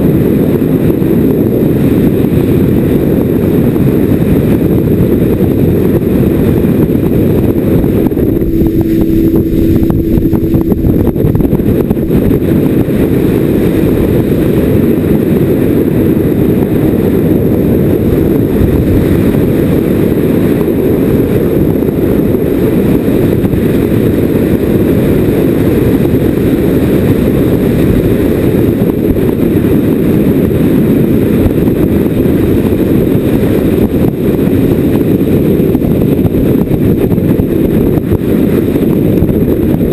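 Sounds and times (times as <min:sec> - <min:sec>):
boat engine and hull noise: 0:00.0 - 0:39.9
wind on microphone: 0:00.0 - 0:39.9.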